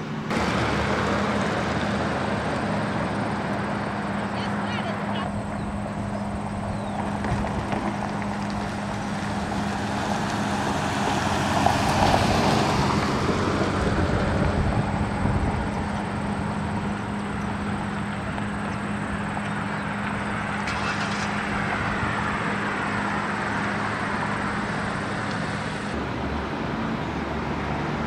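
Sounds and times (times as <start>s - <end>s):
motor vehicle passing: 0.0s - 28.0s.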